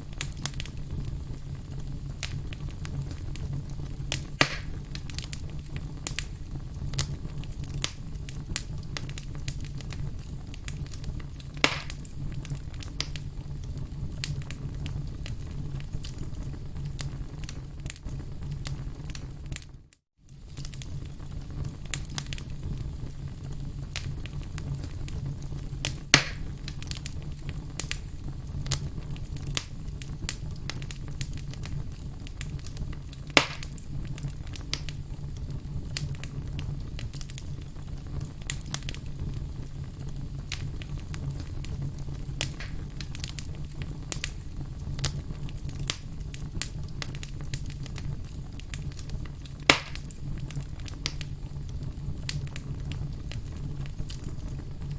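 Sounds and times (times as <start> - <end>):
fire crackling and popping: 0.0 - 54.9
firewood burning: 0.0 - 54.9.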